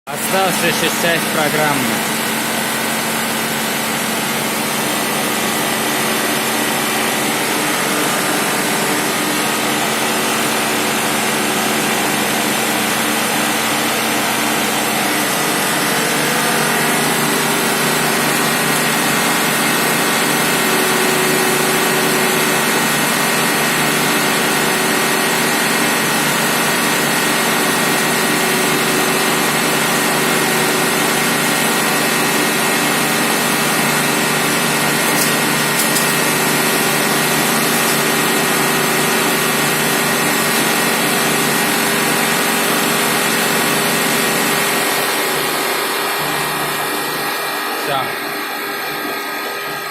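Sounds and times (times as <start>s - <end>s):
milling machine whine: 0.1s - 49.9s.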